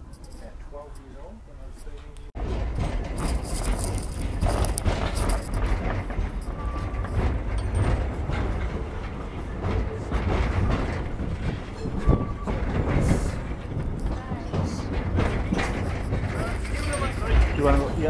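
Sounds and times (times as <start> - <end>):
train wheels rumbling: 0.0 - 18.0
clanks and clicks from rail joints: 1.8 - 18.0.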